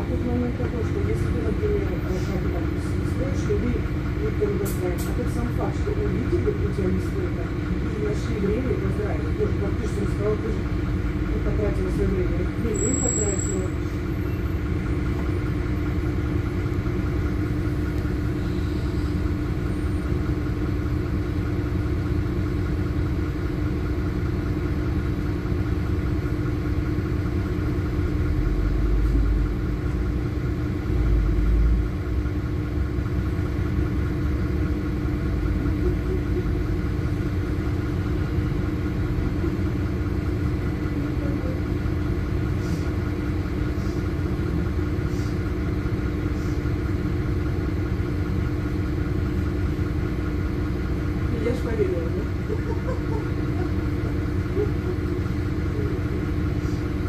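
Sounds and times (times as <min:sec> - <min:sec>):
bus engine hum: 0:00.0 - 0:57.0
road rumble: 0:00.0 - 0:57.0.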